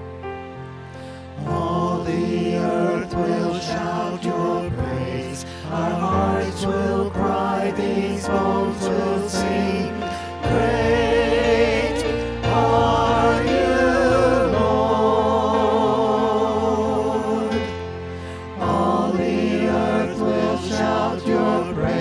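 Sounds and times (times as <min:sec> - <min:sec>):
electric keyboard: 0:00.0 - 0:22.0
group of singers: 0:01.2 - 0:22.0.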